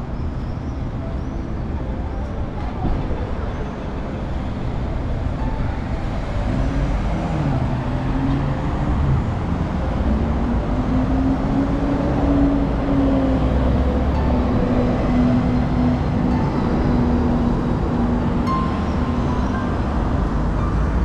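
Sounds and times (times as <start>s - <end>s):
cars passing: 0.0s - 21.0s
engine hum rising in pitch: 0.0s - 21.0s
steady low traffic rumble: 0.0s - 21.0s.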